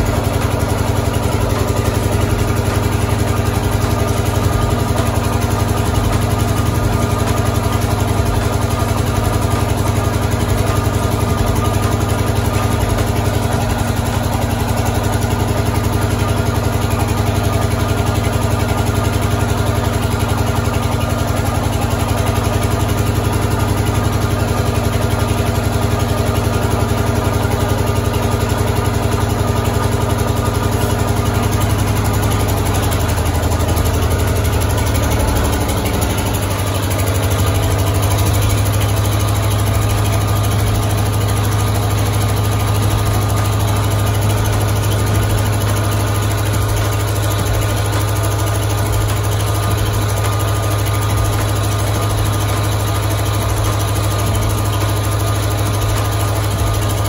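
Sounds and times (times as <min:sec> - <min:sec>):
water pump humming: 0:00.0 - 0:57.0.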